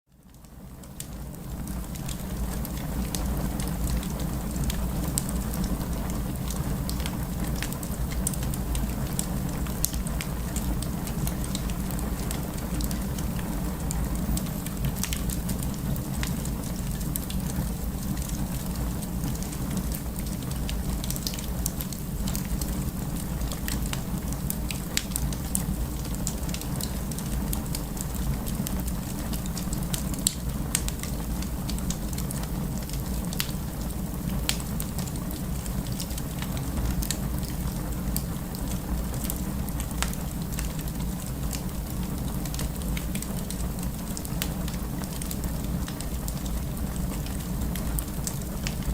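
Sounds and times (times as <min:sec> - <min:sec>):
wood fire crackling: 0:00.2 - 0:48.9.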